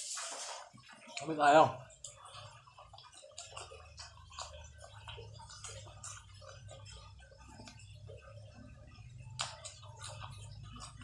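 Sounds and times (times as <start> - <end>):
cucumber crunching and chewing: 0.8 - 11.0.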